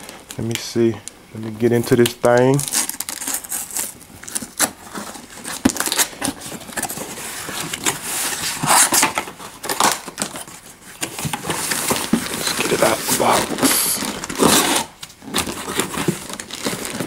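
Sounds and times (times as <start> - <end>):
tape tearing off cardboard: 2.6 - 17.0.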